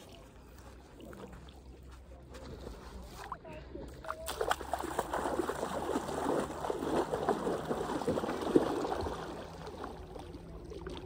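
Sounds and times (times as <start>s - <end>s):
wading through shallow water: 0.0s - 11.0s.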